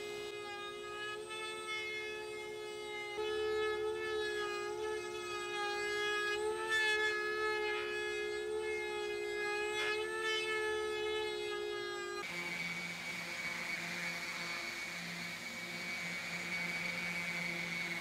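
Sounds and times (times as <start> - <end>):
router whining through wood: 0.0 - 18.0.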